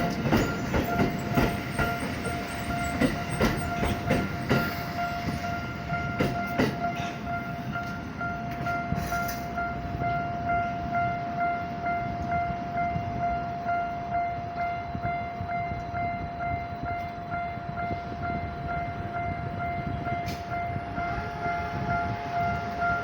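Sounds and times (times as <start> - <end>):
level crossing warning bell: 0.0 - 23.0
train rumbling over crossing: 0.0 - 23.0.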